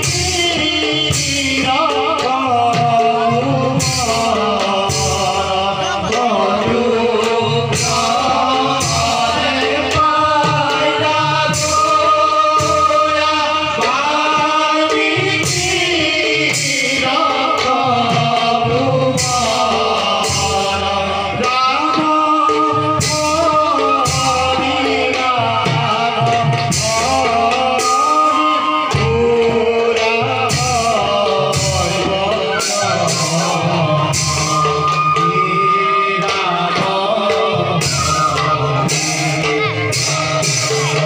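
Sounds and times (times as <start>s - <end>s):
instrumental accompaniment: 0.0s - 41.0s
percussion striking a beat: 0.0s - 41.0s
person singing: 0.0s - 41.0s.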